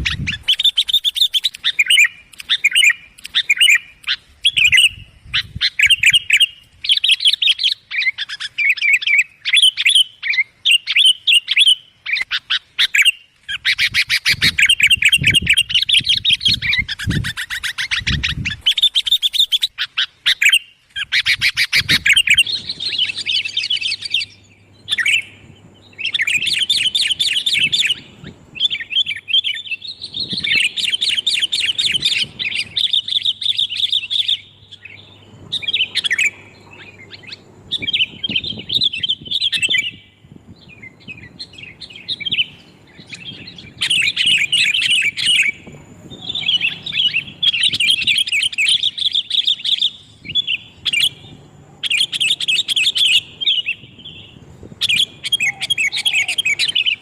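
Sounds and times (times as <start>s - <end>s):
bulbuls chirping: 0.0s - 57.0s.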